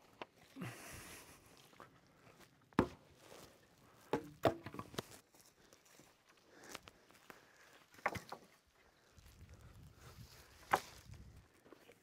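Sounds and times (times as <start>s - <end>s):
footsteps on forest floor: 0.0s - 12.0s.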